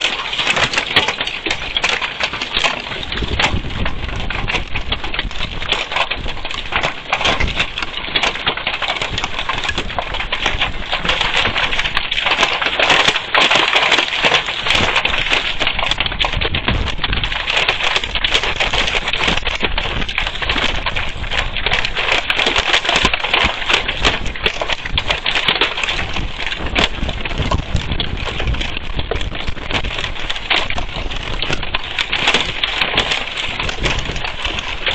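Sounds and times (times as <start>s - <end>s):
hail and rain on hard surface: 0.0s - 34.9s.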